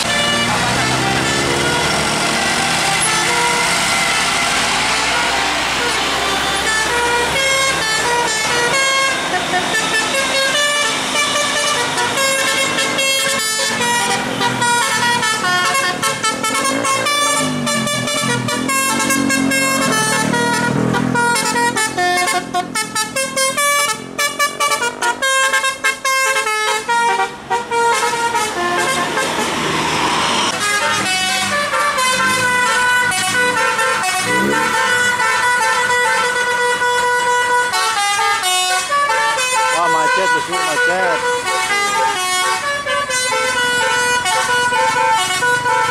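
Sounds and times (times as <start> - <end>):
bus diesel engine labouring: 0.0 - 45.9
musical air horns playing melody: 0.0 - 45.9.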